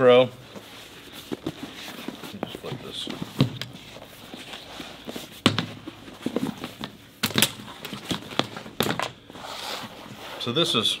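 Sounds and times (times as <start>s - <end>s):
vinyl material rustling: 0.0s - 11.0s.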